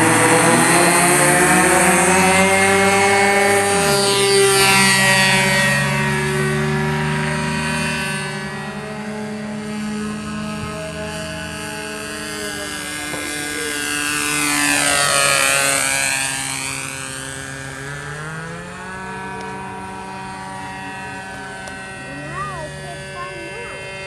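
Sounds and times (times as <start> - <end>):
model airplane engine droning: 0.0 - 24.0.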